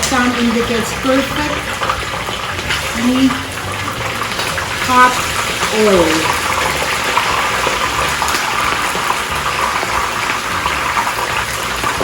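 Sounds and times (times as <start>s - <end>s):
chicken wings deep-frying in oil: 0.0s - 12.0s.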